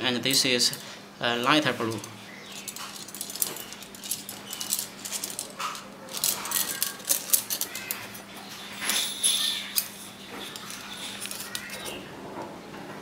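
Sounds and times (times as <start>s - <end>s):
carabiners clinking and rattling: 0.3s - 12.1s.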